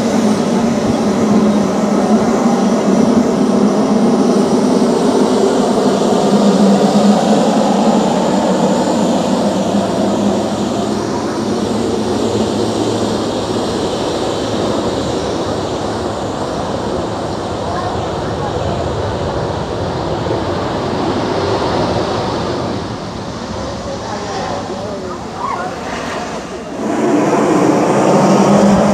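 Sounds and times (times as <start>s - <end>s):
jet engine rushing: 0.0s - 28.9s.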